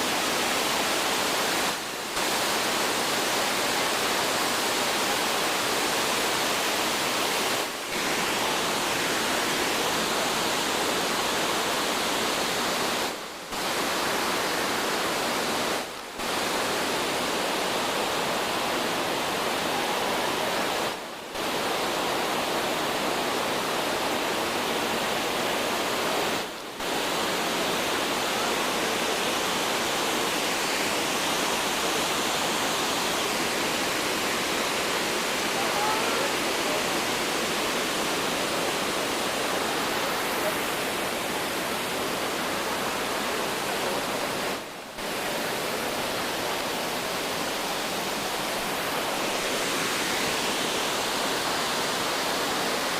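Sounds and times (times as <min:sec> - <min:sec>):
roar of waterfall: 0:00.0 - 0:52.9.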